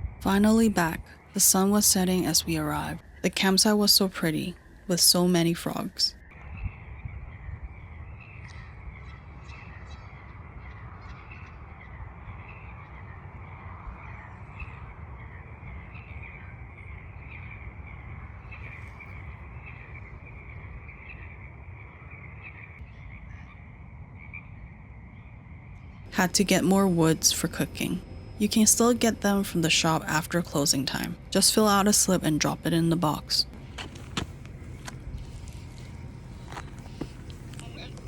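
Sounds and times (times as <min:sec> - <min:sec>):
frogs chorusing: 0:00.0 - 0:33.5
steady low rumble: 0:00.0 - 0:38.0.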